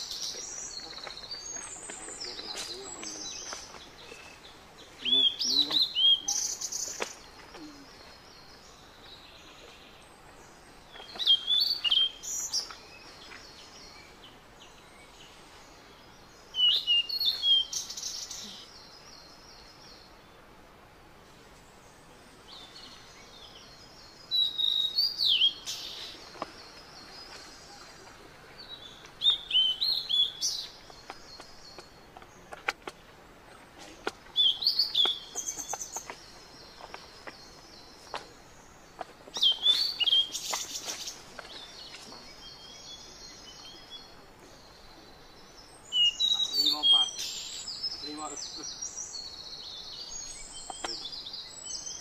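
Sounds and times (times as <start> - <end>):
songbird singing warbled phrase: 0.0 - 10.0, 10.9 - 20.4, 22.4 - 32.6, 33.8 - 52.0.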